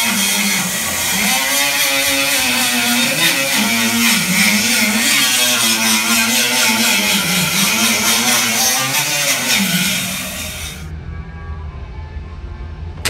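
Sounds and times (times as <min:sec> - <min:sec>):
motor running with wavering pitch: 0:00.0 - 0:10.9.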